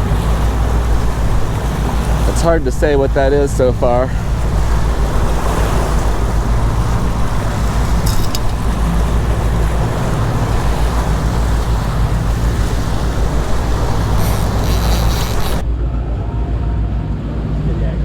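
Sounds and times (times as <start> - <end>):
water noise: 0.0 - 17.7
boat engine running: 0.0 - 18.0
wind: 0.0 - 18.0.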